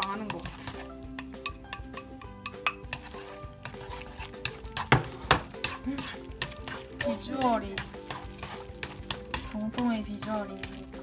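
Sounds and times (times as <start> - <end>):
utensil knocking against pan: 0.0 - 10.8
spaghetti stirred in frying pan: 0.0 - 11.0.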